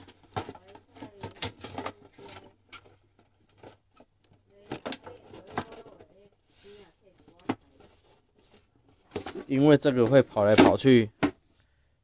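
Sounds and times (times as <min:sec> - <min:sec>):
plastic parts clicking and knocking: 0:00.0 - 0:06.2, 0:07.2 - 0:11.4.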